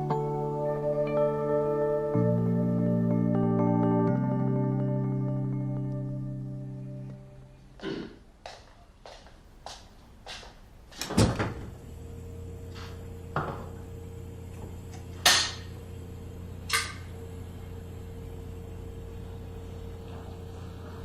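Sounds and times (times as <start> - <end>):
low steady hum: 0.0 - 7.8, 11.1 - 21.0.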